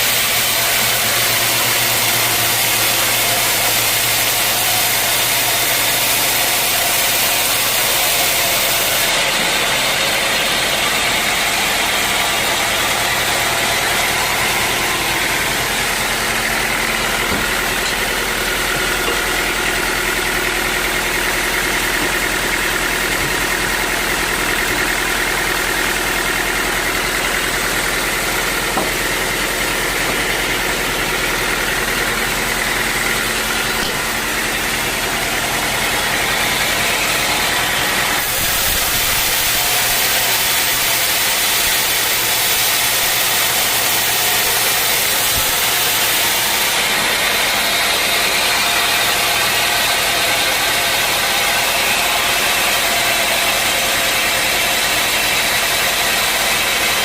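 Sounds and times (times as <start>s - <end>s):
sawmill machinery hum: 0.0s - 57.0s.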